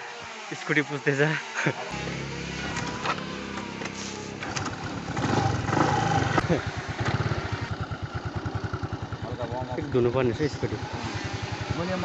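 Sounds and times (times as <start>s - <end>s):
scooter engine revving and idling: 0.0s - 12.0s.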